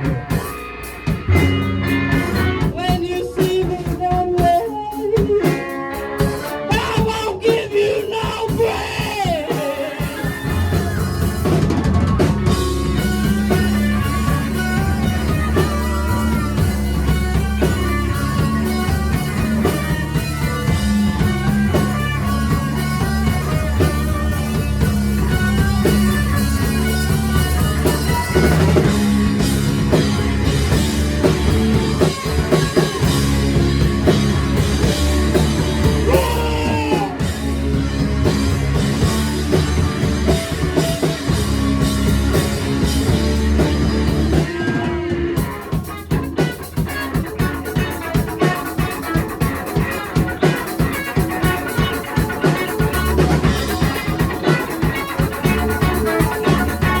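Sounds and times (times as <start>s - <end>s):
heavy bass: 0.0s - 5.5s, 6.2s - 57.0s
rock band playing live: 0.0s - 57.0s.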